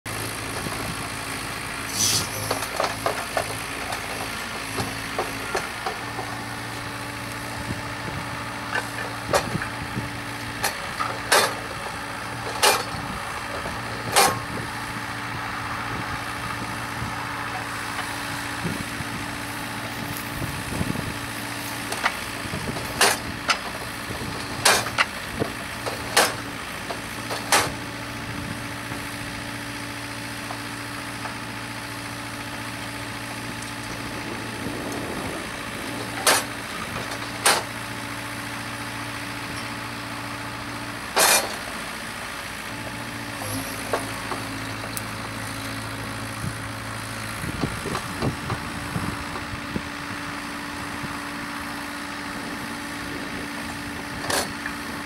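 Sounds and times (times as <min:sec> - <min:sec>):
diesel excavator engine running: 0:00.1 - 0:55.0.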